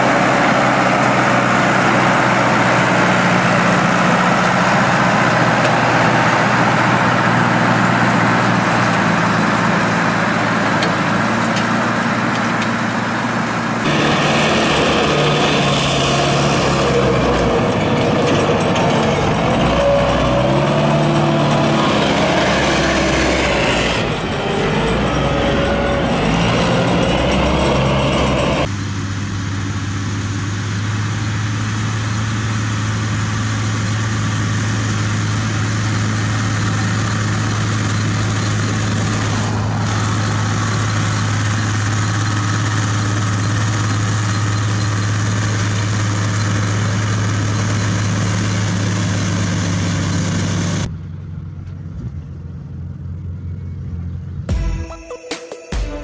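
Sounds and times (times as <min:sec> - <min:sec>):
hay baler machinery clatter: 0:00.0 - 0:28.7, 0:33.2 - 0:50.9
tractor engine running: 0:00.0 - 0:54.6.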